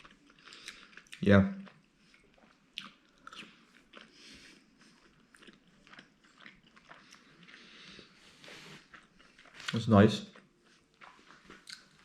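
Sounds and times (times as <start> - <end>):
chewing mouth clicks and smacks: 0.0 - 8.1, 8.8 - 12.0.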